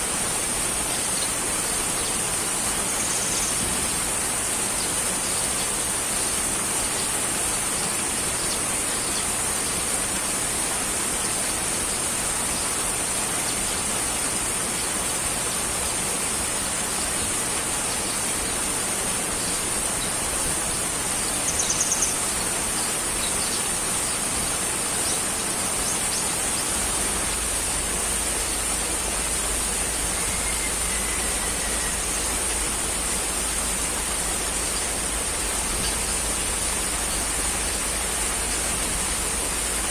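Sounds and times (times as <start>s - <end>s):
steady rushing noise with hiss: 0.0s - 39.9s.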